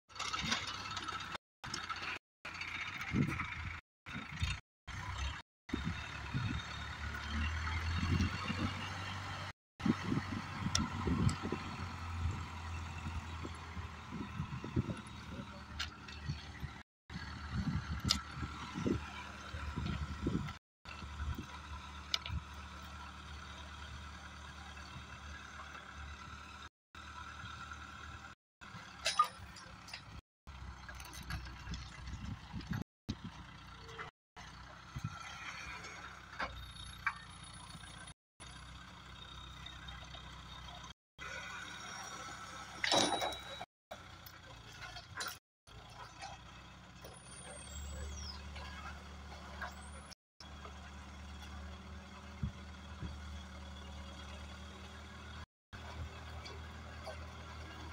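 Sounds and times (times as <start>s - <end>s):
diesel engine droning: 0.1s - 57.9s.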